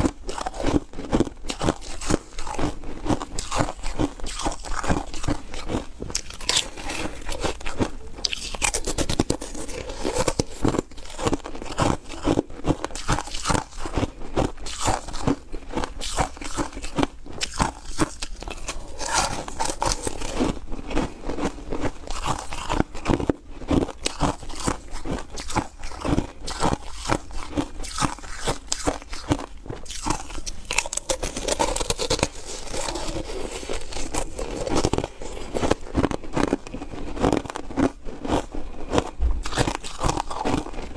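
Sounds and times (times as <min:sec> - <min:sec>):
crunching foam ice: 0:00.0 - 0:40.9.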